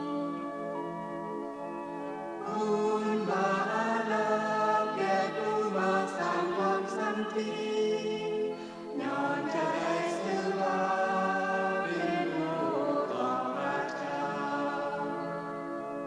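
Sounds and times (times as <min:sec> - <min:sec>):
choir singing long notes: 0:00.0 - 0:01.2, 0:02.4 - 0:16.0.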